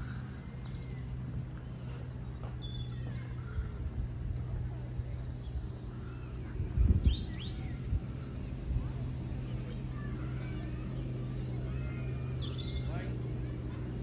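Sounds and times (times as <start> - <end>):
low outdoor hum: 0.0 - 14.0
songbirds chirping and whistling: 0.0 - 14.0
sweeping bird calls: 0.0 - 14.0.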